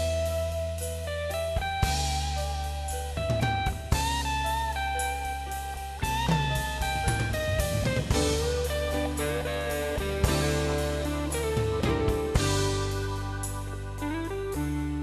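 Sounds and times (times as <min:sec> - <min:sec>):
drum kit: 0:00.0 - 0:15.0
electric guitar melody: 0:00.0 - 0:15.0
steady bass: 0:00.0 - 0:15.0.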